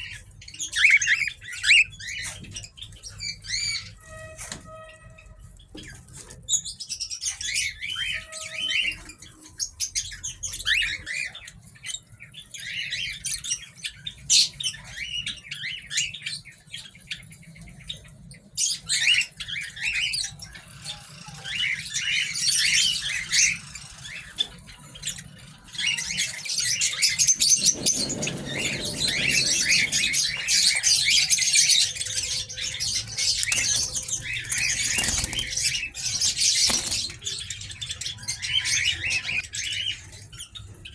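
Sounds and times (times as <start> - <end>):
small birds chirping: 4.9 - 40.9.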